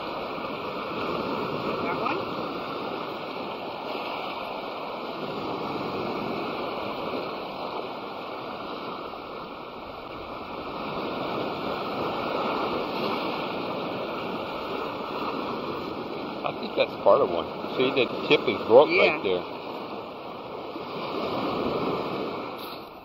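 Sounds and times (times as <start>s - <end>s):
surf washing onto beach: 0.0s - 23.0s.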